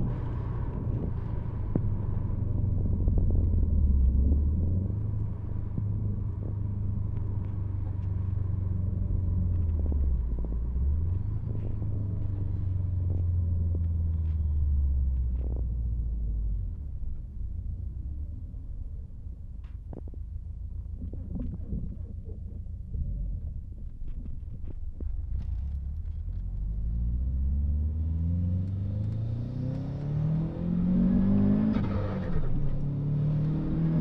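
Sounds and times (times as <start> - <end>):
car engine rumbling: 0.0 - 34.0.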